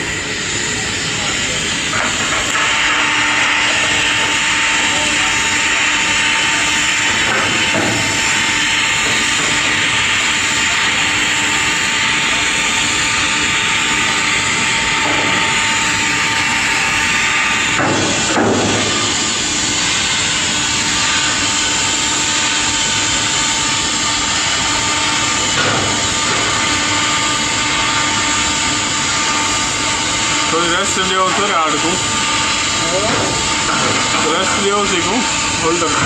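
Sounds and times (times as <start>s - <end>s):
faint machine hum: 0.0s - 36.0s
welding arc hissing and crackling: 0.0s - 36.0s.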